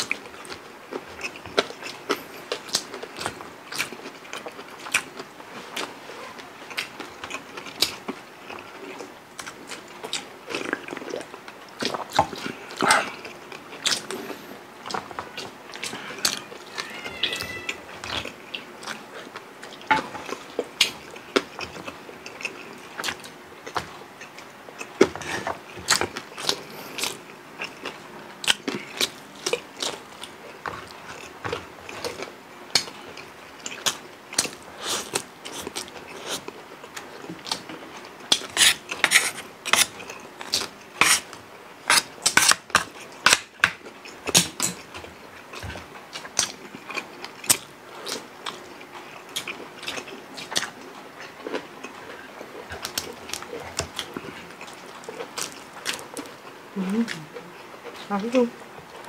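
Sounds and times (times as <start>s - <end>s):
people chewing crispy food: 0.0s - 59.0s.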